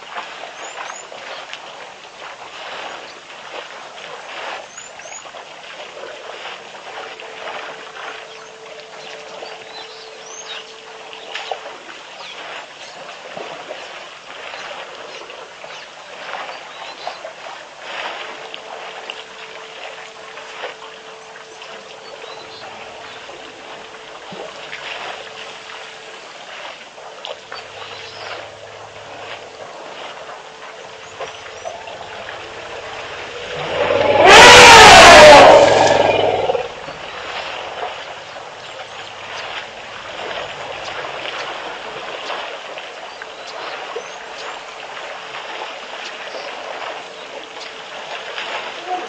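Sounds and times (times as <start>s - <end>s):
water splashing and trickling: 0.0s - 49.0s.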